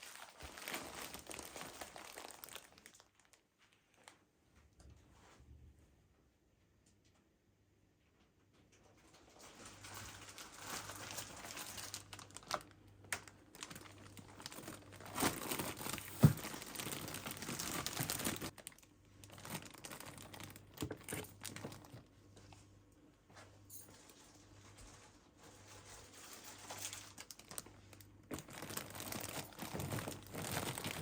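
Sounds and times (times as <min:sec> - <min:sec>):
crinkling and rustling: 0:00.0 - 0:05.5, 0:08.1 - 0:31.0.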